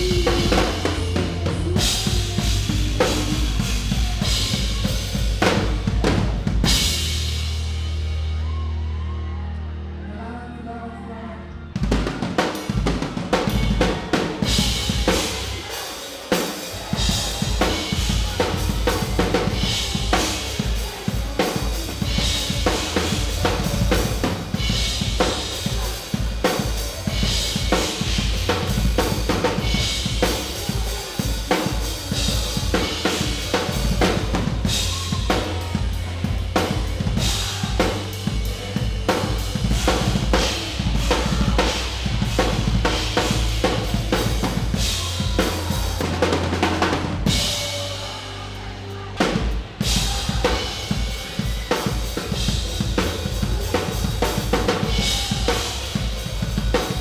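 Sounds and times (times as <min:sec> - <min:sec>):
rock drum kit playing: 0:00.0 - 0:09.1, 0:11.8 - 0:57.0.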